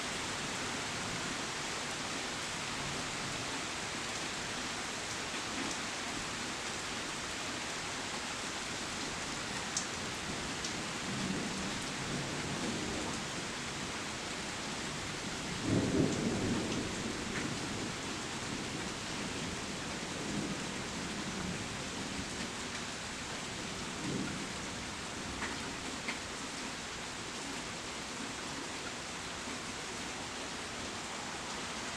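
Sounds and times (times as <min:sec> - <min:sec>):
steady rain hissing: 0:00.0 - 0:31.9.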